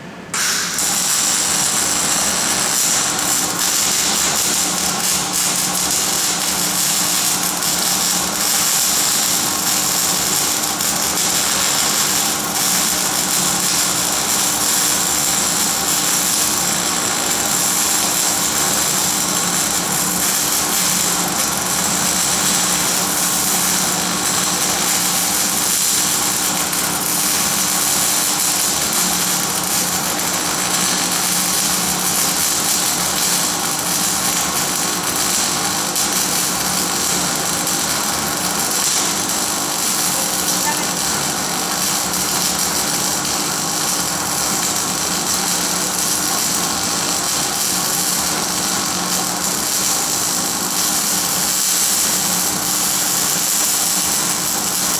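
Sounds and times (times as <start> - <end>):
faint welding machine hum: 0.0 - 54.9
welding arc crackling hiss: 0.3 - 54.9.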